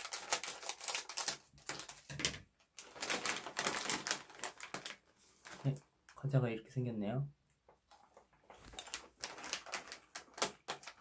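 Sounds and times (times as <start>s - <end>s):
plastic snack bag crinkling: 0.0s - 5.8s, 7.9s - 11.0s.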